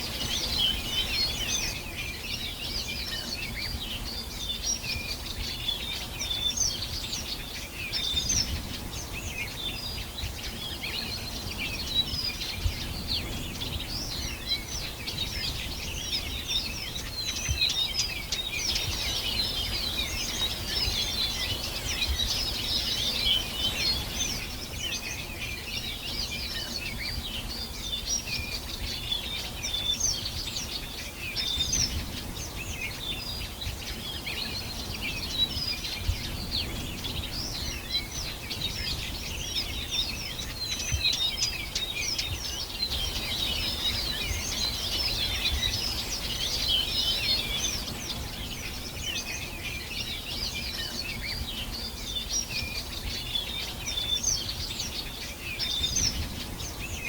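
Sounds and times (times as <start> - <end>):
birds chirping in chorus: 0.0 - 57.0.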